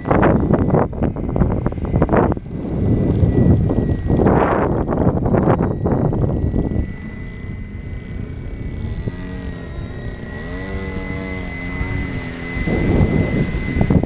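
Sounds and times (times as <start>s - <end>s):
model helicopter rotor whine: 0.0s - 14.0s
wind buffeting microphone: 0.0s - 14.0s.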